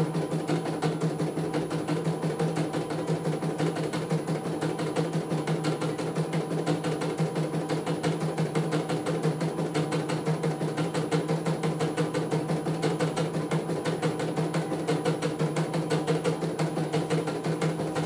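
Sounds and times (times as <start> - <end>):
embroidery machine stitching: 0.0 - 18.0.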